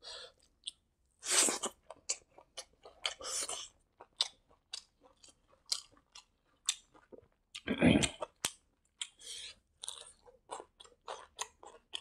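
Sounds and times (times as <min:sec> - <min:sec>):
chewing crunches: 0:01.5 - 0:09.2, 0:09.8 - 0:12.0.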